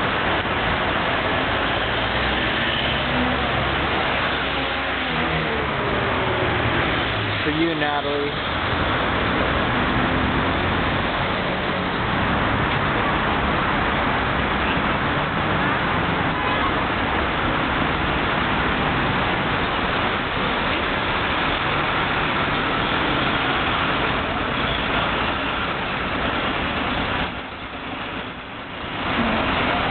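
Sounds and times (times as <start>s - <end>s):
cars driving past: 0.0s - 29.9s.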